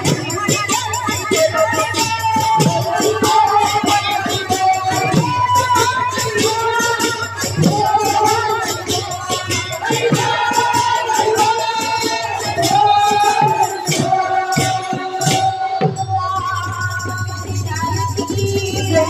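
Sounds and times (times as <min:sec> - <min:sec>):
fast drum beat: 0:00.0 - 0:19.0
jingling percussion: 0:00.0 - 0:19.0
women singing through microphones: 0:00.0 - 0:19.0.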